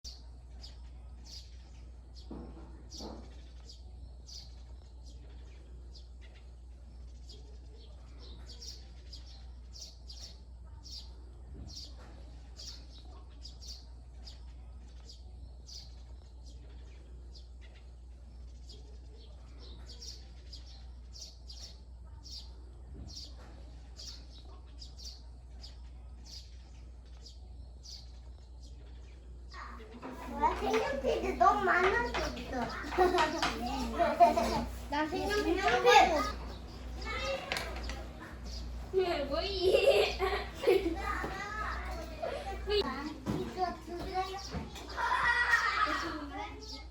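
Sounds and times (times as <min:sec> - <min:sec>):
small birds chirping: 0:00.0 - 0:46.9
steady low hum: 0:00.1 - 0:44.0.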